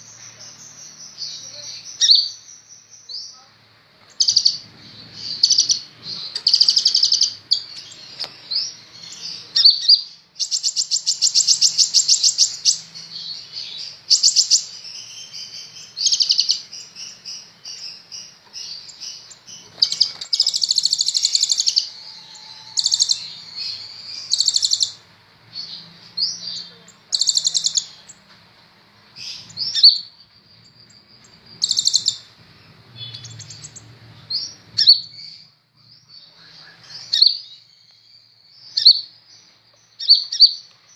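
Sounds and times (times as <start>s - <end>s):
sunbird chirps and buzzy trills: 0.0s - 40.9s.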